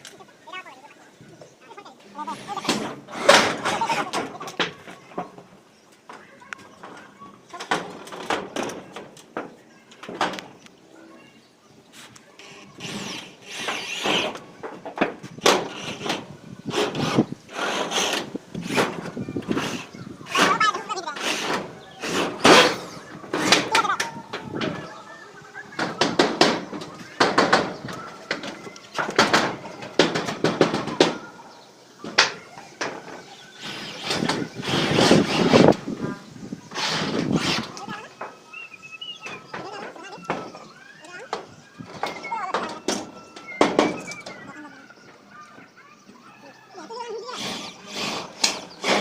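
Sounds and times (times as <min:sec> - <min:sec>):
metal roofing sheets scraping: 0:02.0 - 0:10.6, 0:11.9 - 0:31.4, 0:32.0 - 0:45.3, 0:46.8 - 0:49.0.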